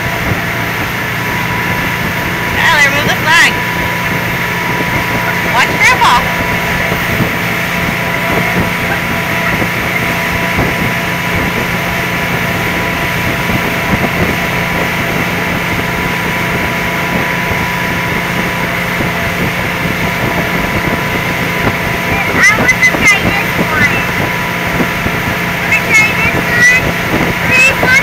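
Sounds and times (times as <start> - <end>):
motorboat engine humming: 0.0 - 28.0
water rushing: 0.0 - 28.0
wind: 0.0 - 28.0.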